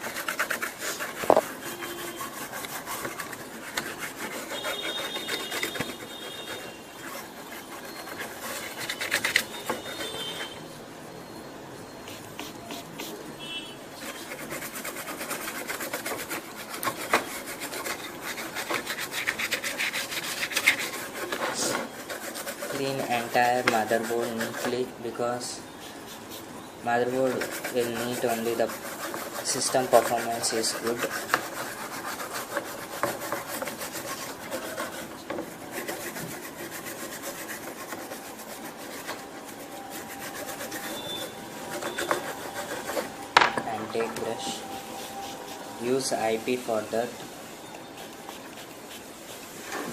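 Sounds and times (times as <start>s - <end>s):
toothbrush scrubbing circuit board: 0.0s - 10.6s, 14.0s - 47.1s, 47.7s - 49.9s.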